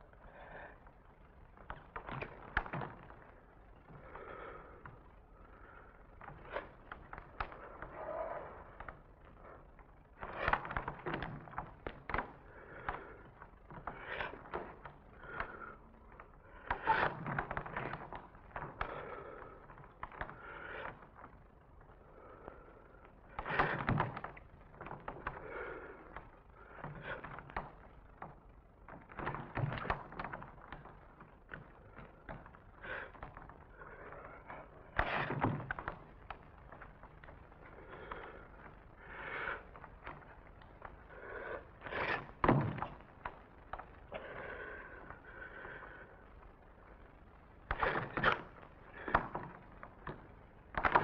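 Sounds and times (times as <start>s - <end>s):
bare feet on wooden stage floor: 0.5s - 51.0s.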